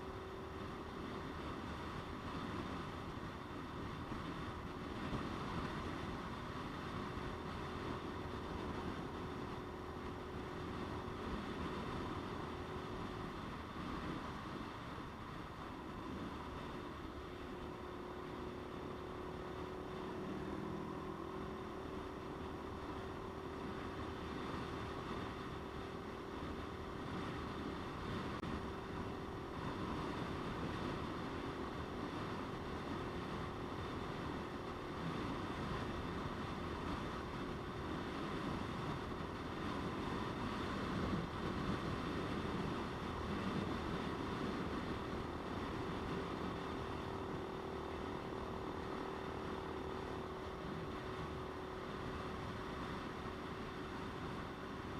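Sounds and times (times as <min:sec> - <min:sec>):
motorcycle engine running: 0:00.0 - 0:54.9
wind rushing over microphone: 0:00.0 - 0:54.9.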